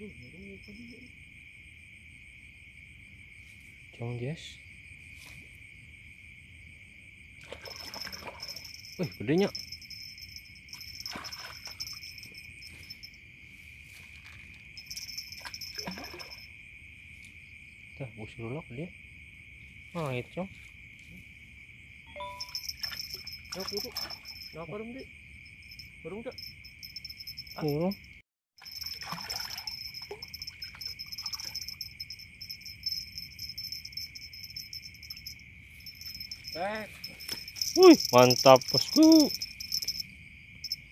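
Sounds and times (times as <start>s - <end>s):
high insect trill: 0.0s - 40.9s
night insects chirring: 0.0s - 40.9s.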